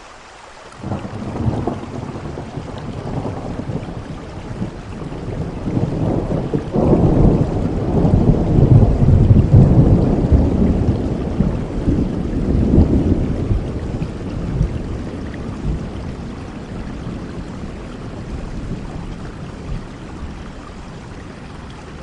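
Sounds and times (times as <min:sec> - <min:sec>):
steady rain: 0:00.0 - 0:22.0
thunder rumbling: 0:00.8 - 0:22.0.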